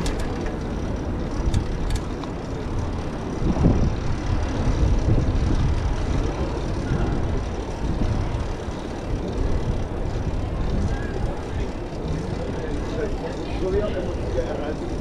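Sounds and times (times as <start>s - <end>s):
bicycle rumbling over brick paving: 0.0s - 15.0s.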